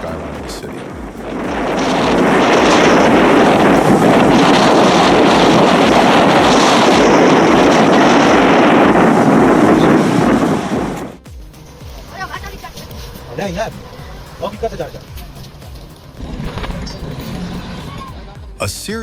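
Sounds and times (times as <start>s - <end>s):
wind on microphone: 0.0s - 18.4s
water wash: 0.0s - 18.5s.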